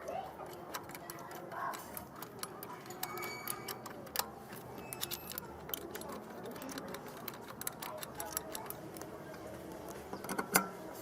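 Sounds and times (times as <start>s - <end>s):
metallic clicks and taps: 0.0s - 10.8s.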